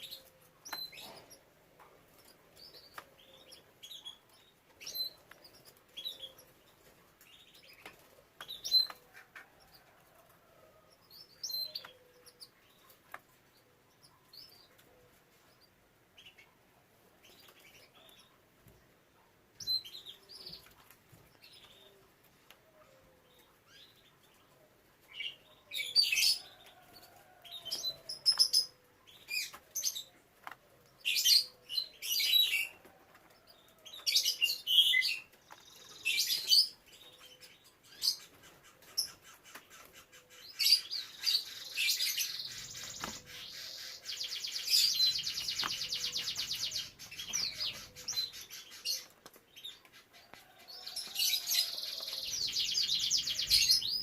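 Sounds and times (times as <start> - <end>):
canaries chirping: 0.0 - 10.2, 10.8 - 18.8, 19.5 - 54.0.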